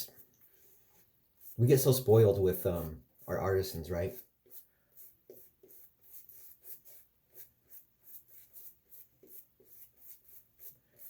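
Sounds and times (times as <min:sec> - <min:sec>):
shaving brush swishing lather: 0:00.0 - 0:11.0.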